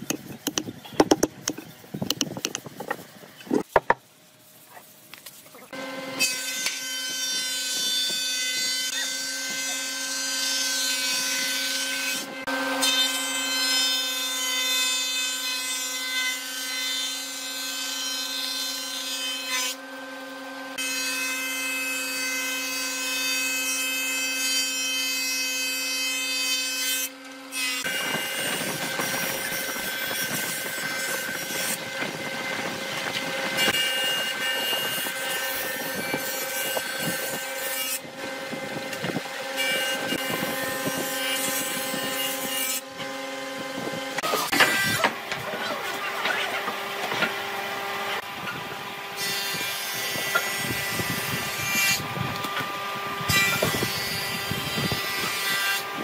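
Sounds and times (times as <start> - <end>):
jointer planing board: 0.0 - 4.0, 5.8 - 56.0
thickness planer cutting boards: 0.0 - 4.0, 5.7 - 56.0.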